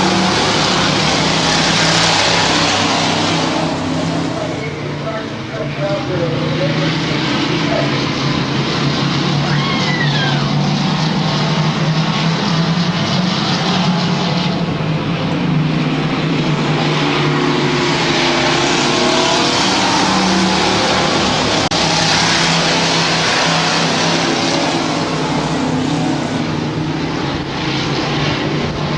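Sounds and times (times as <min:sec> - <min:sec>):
racing truck engines: 0:00.0 - 0:28.9.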